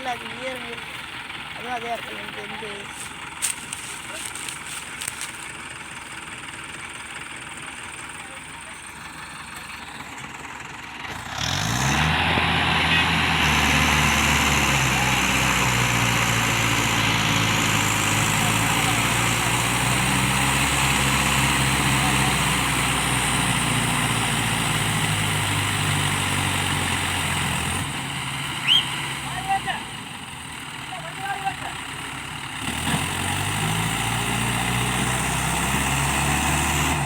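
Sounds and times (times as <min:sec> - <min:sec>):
heavy diesel engine revving: 0:00.0 - 0:37.0.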